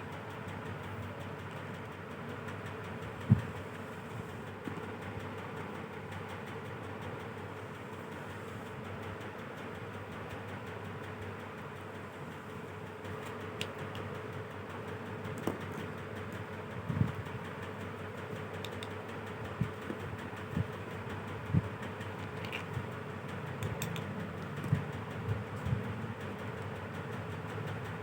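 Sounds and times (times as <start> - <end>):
fan-like hum: 0.0 - 28.0.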